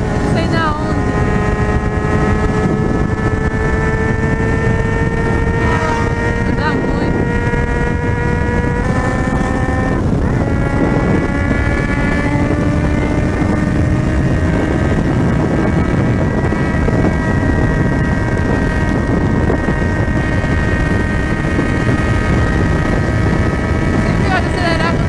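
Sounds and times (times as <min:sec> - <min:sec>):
motorcycle engine at speed: 0:00.0 - 0:25.0
wind and road noise: 0:00.0 - 0:25.0.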